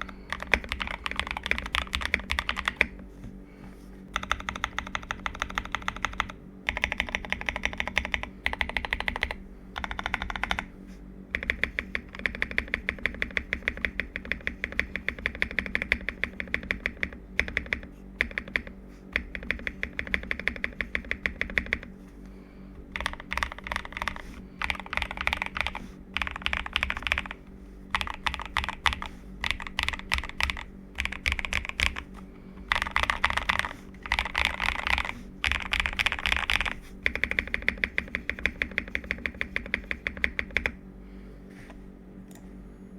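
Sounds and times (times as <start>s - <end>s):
mechanical keyboard typing: 0.0s - 3.0s, 4.1s - 10.7s, 11.3s - 21.9s, 22.9s - 32.1s, 32.7s - 40.8s.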